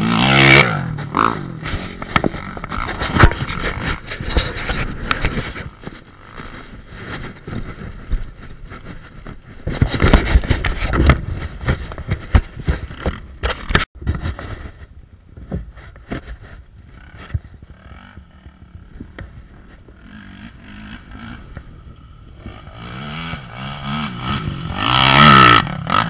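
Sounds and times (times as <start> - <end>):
atv engine: 0.0 - 26.0.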